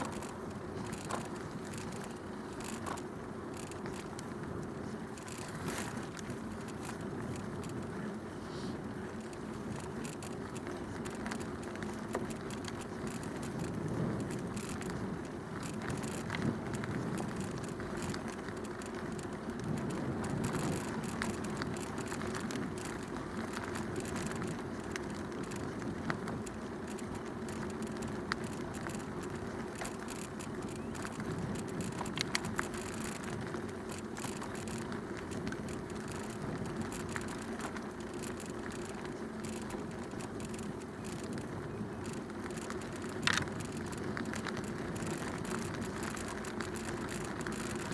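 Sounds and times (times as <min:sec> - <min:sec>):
bicycle clicks and rattles: 0:00.0 - 0:47.9
bicycle tyre noise: 0:00.0 - 0:47.9.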